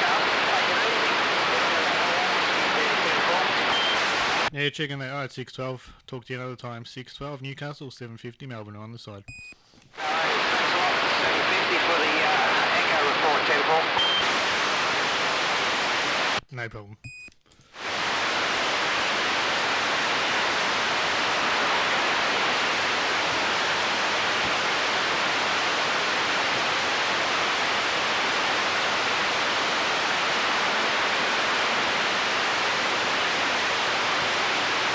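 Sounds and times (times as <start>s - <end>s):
radio static hiss: 0.0s - 4.6s, 9.9s - 16.5s, 17.8s - 34.9s.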